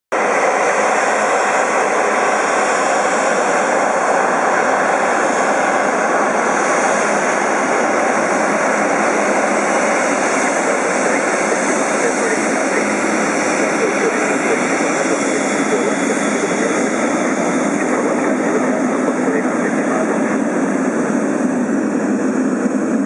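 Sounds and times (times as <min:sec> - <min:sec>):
jet engines taxiing: 0:00.1 - 0:23.0.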